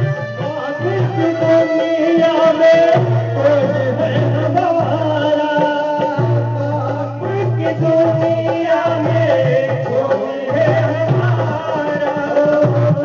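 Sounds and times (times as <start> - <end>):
devotional song melody: 0.0 - 13.0
light percussion: 0.0 - 13.0.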